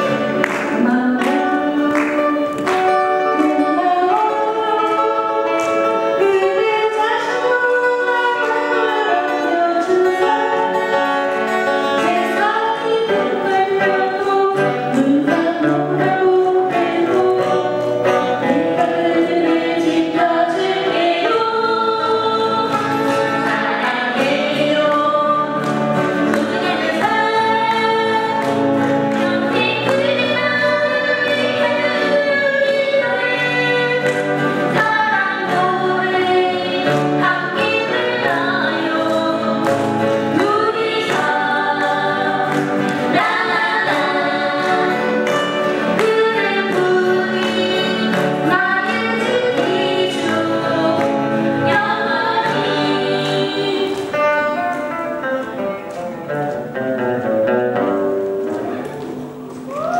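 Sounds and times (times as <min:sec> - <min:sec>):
group singing in harmony: 0:00.0 - 0:54.6
acoustic guitars strumming: 0:00.0 - 0:59.8.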